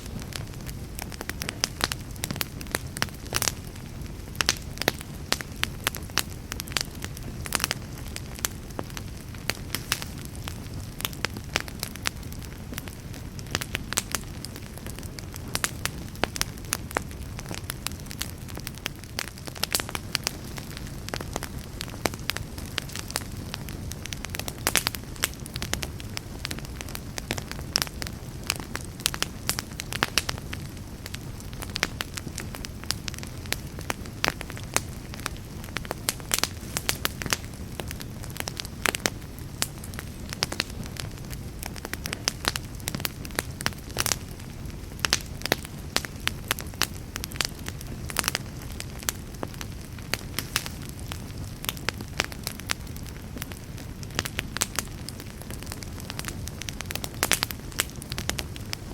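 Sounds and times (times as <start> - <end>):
fire crackles and pops: 0.0 - 58.9
low rumble of flames: 0.0 - 58.9.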